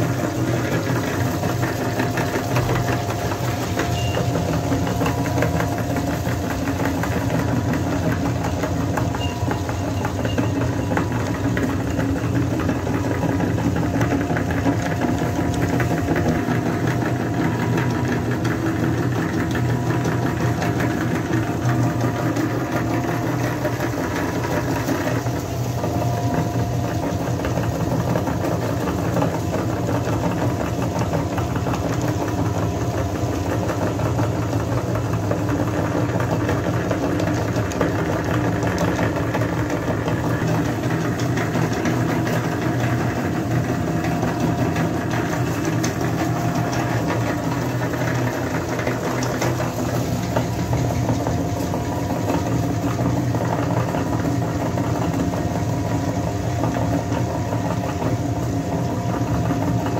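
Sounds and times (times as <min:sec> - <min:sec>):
meat grinder grinding cookies: 0:00.0 - 0:59.9.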